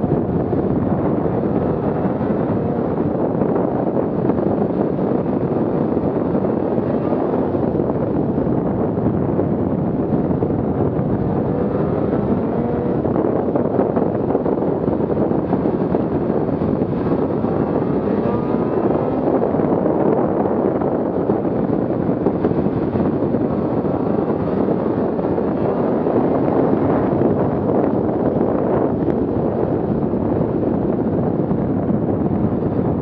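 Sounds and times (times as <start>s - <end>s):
snowmobile engine running: 0.0s - 30.7s
wind noise on microphone: 0.0s - 33.0s.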